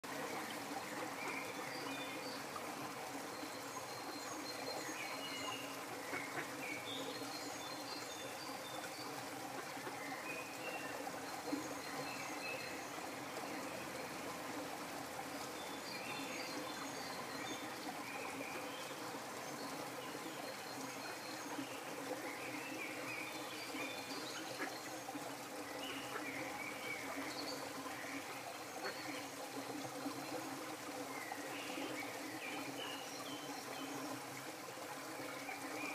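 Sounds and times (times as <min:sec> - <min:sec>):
running water: 0:00.0 - 0:35.9.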